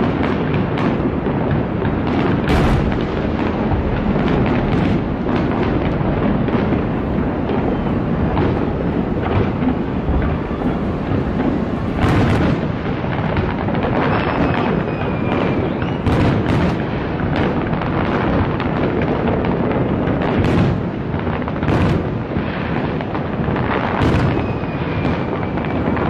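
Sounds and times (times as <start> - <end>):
fireworks rumbling explosions: 0.0 - 26.0
sharp cracking bangs: 0.0 - 26.0.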